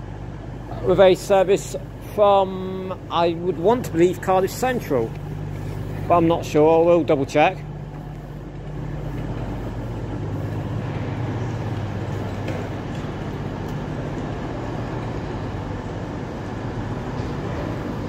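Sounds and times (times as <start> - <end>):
diesel train engine humming: 0.0 - 18.0.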